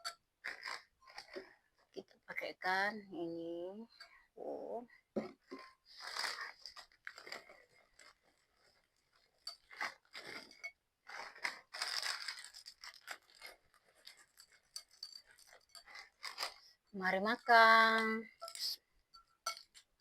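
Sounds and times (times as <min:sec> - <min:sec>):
rustling and scraping of objects: 0:00.0 - 0:02.3, 0:05.2 - 0:20.0.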